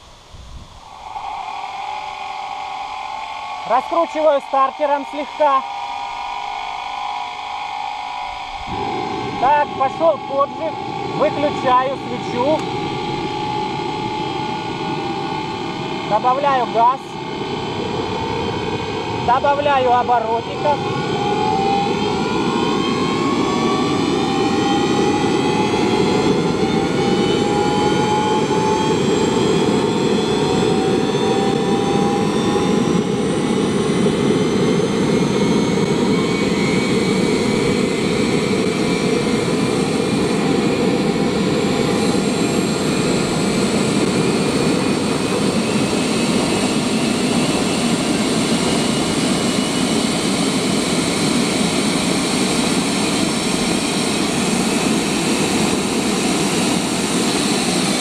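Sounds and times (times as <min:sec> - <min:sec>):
high-pitched turbine whine: 0:00.0 - 0:58.0
turbojet engine roaring: 0:00.0 - 0:58.0.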